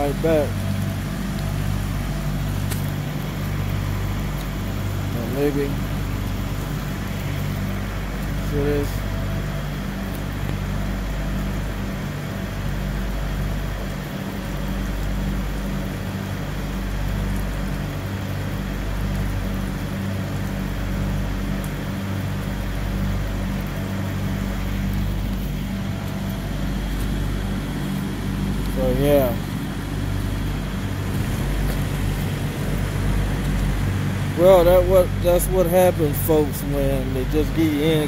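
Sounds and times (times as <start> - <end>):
diesel truck engine idling: 0.0 - 16.2, 22.1 - 38.0.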